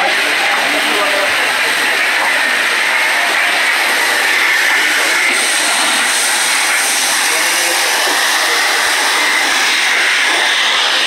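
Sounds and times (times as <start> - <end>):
indistinct voices: 0.0 - 11.0
water spraying from fire hose: 0.0 - 11.0.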